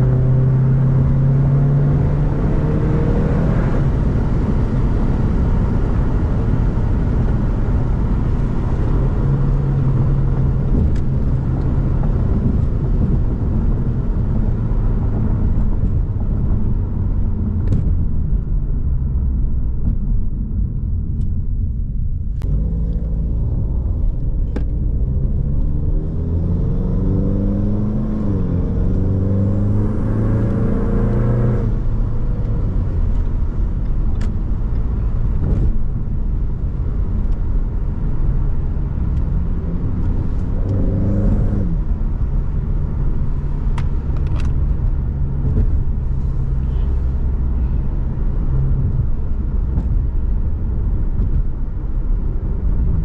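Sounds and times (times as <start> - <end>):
car engine accelerating: 0.0 - 53.0
road and wind rumble: 0.0 - 53.0.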